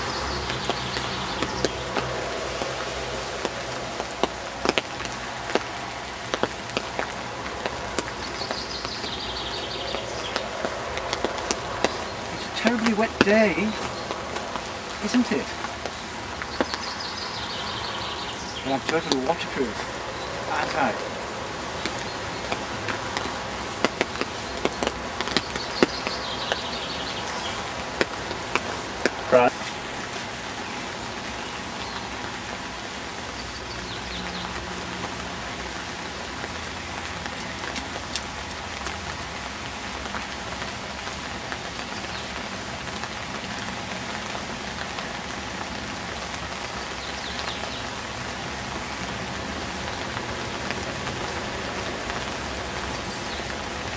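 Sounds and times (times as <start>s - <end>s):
rain falling: 0.0s - 53.9s
raindrop impacts: 0.0s - 53.9s.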